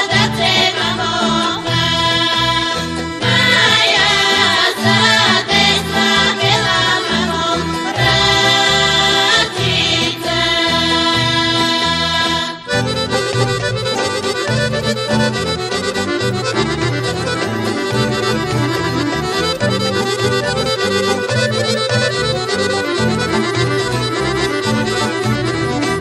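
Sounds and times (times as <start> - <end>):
accordion folk dance music: 0.0 - 26.0.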